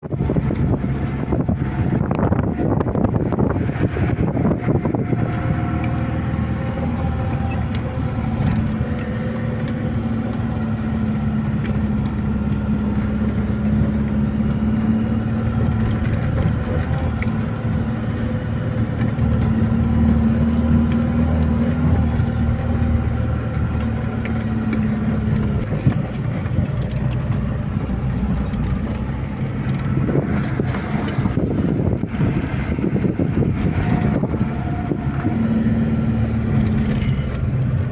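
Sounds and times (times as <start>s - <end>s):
vehicle engine humming: 0.0s - 37.9s.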